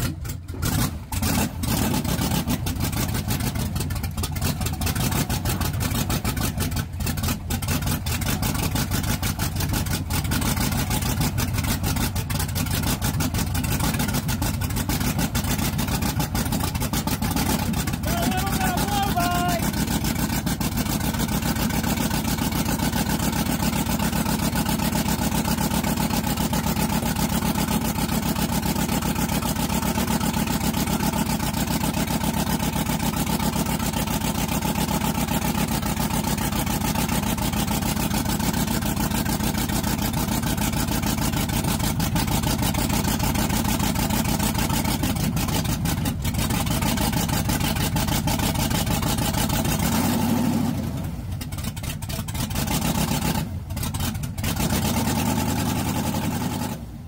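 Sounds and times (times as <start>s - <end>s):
engine running with misfires: 0.0s - 57.0s.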